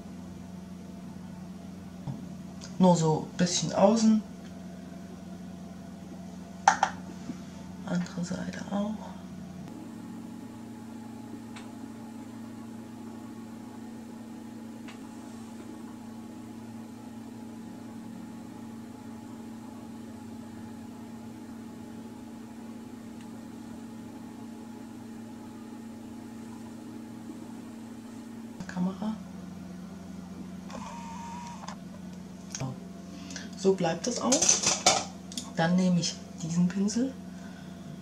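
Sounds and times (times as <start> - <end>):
machine hum with tones: 0.0 - 38.0.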